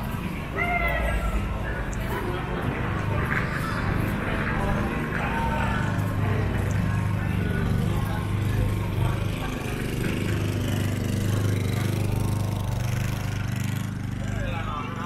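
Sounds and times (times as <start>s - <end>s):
indistinct voices: 0.0s - 15.0s
vehicle engine idling: 0.0s - 15.0s.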